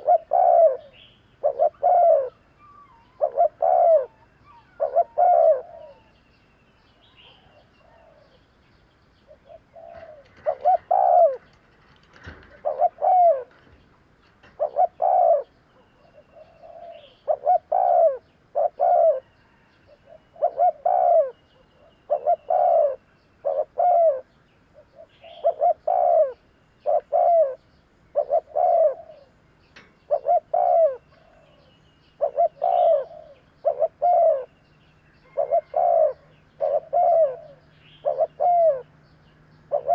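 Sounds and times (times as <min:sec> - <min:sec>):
dove cooing: 0:00.0 - 0:06.2, 0:07.1 - 0:08.4, 0:09.3 - 0:34.6, 0:35.2 - 0:39.0, 0:39.7 - 0:39.9
faint high bird chirps: 0:00.0 - 0:39.9.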